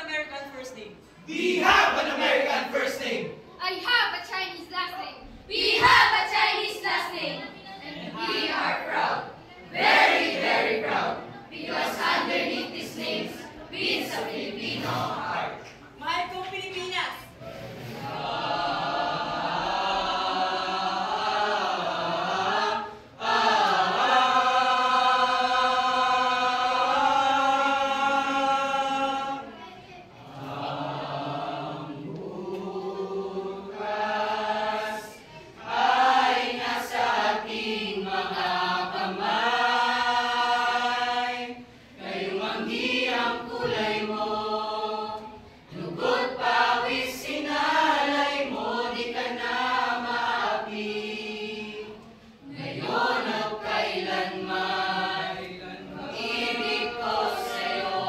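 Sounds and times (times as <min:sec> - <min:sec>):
group of voices singing: 0:01.2 - 0:03.4, 0:05.5 - 0:16.0, 0:17.3 - 0:58.0.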